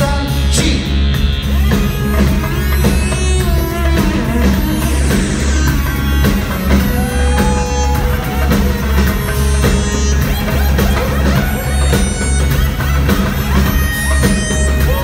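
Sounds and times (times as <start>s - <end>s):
live band music: 0.0s - 15.0s
pulsing bass beat: 0.0s - 15.0s.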